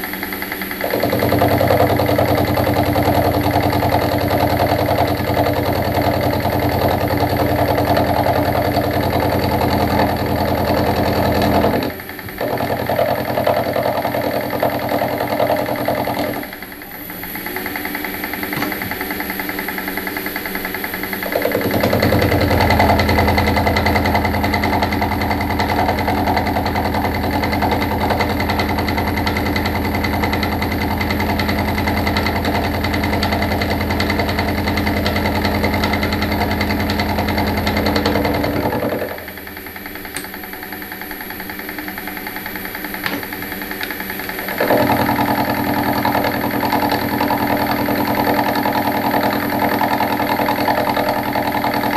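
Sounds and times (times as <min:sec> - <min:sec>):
machine tool cutting metal: 0:00.0 - 0:51.9.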